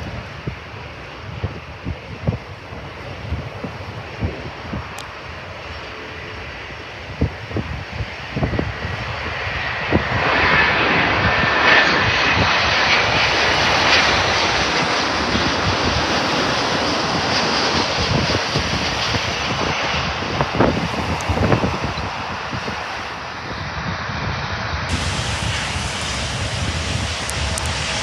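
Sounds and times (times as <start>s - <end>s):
engine whine: 0.0s - 28.0s
jet engines passing overhead: 0.0s - 28.0s.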